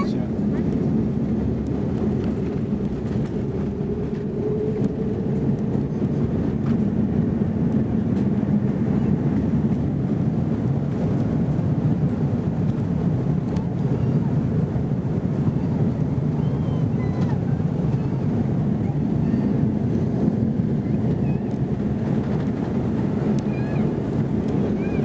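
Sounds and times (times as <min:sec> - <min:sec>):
aircraft rolling on runway: 0:00.0 - 0:25.0.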